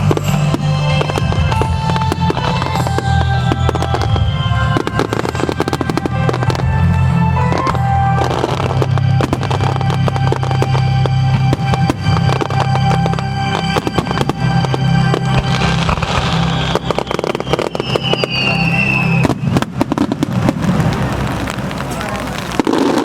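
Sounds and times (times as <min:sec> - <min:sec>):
music over loudspeakers: 0:00.0 - 0:20.8
fireworks bangs and crackling: 0:00.0 - 0:23.0.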